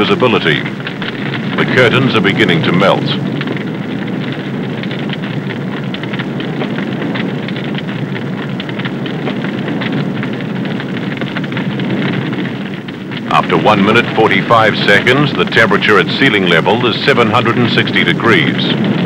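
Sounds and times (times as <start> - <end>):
fire roaring and crackling: 0.0 - 19.0.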